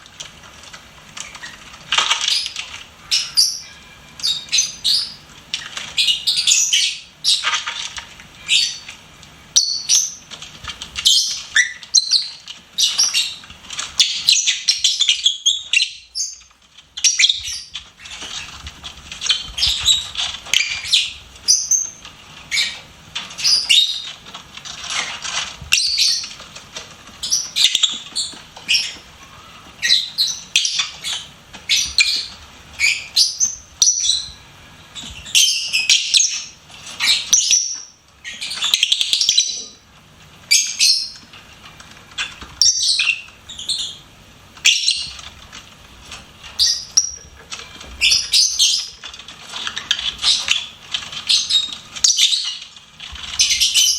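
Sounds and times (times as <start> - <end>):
lovebirds chirping: 1.2 - 39.8, 40.5 - 41.3, 42.1 - 45.4, 46.4 - 53.9.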